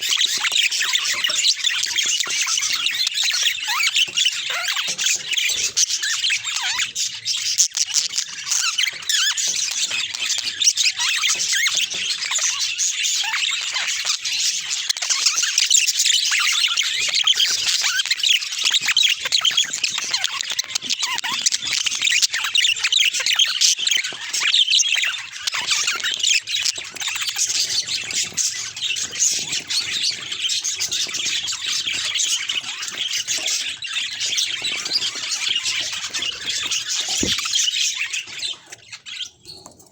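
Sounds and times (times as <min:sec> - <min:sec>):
budgerigars chattering: 0:00.0 - 0:39.7.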